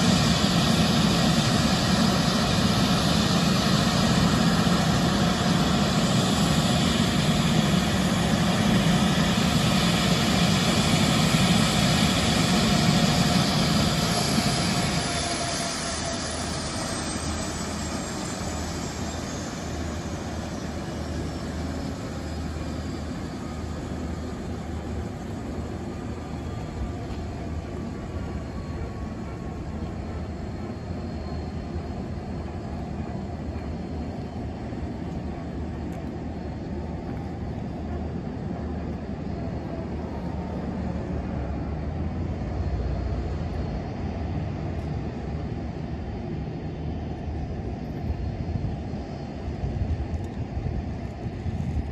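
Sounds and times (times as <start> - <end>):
helicopter turbine whine winding down: 0.0 - 51.9.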